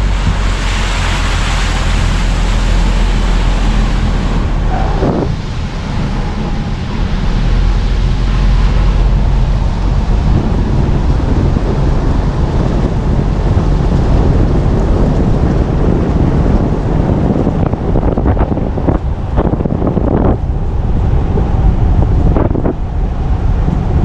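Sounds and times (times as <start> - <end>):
car road noise: 0.0 - 24.0
wind buffeting microphone: 0.0 - 24.0.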